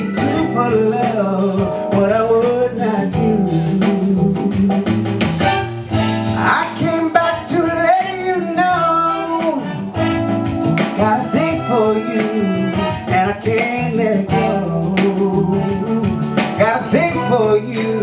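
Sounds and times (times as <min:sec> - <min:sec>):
man singing into microphone: 0:00.0 - 0:04.8, 0:06.4 - 0:09.8, 0:10.8 - 0:18.0
band with guitar: 0:00.0 - 0:18.0.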